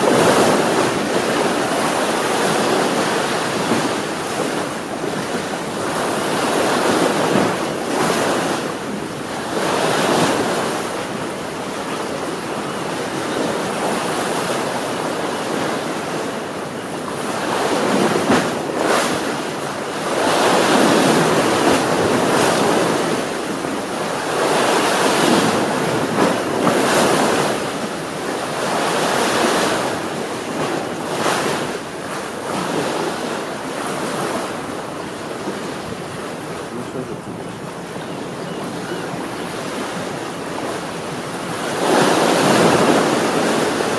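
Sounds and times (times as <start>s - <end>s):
sea waves washing onto shore: 0.0s - 43.9s.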